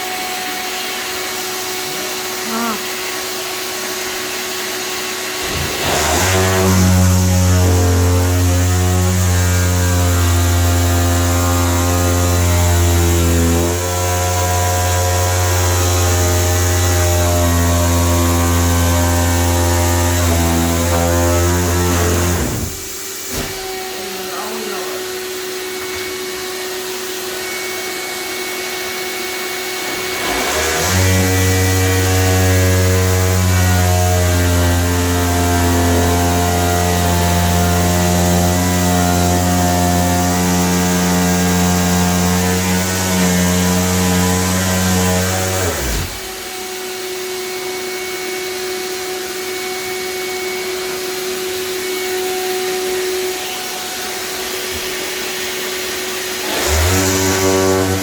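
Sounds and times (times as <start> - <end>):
deep power tool running: 0.0 - 58.0
vacuum cleaner whining: 0.0 - 58.0.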